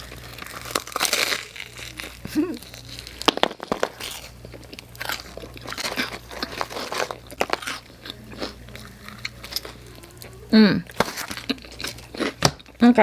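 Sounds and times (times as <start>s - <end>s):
chewing and crunching food: 0.0s - 13.0s.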